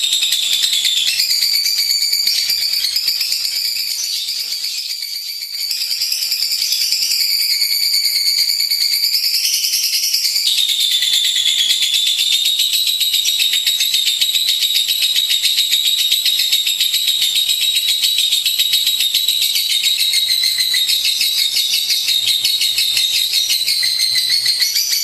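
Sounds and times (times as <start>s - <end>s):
bird rapid high trill: 0.0s - 8.8s, 9.5s - 25.0s.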